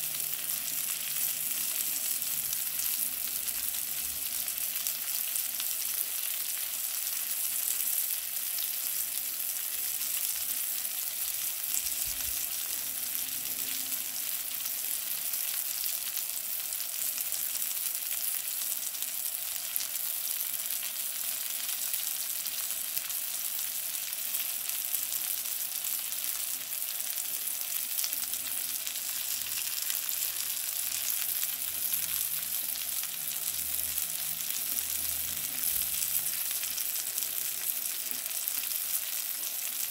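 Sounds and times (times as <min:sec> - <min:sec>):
fish sizzling in a pan: 0:00.0 - 0:39.9.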